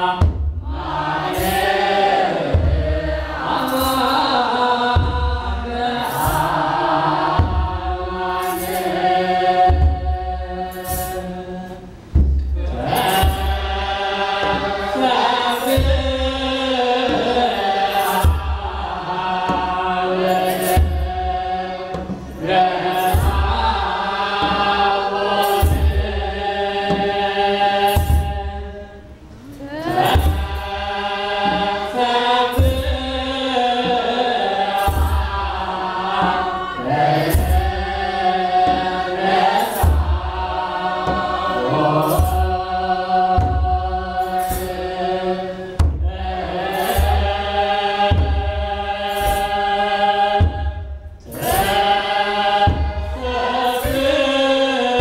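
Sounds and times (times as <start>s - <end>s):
large drums struck: 0.0s - 55.0s
men chanting a hymn: 0.0s - 55.0s.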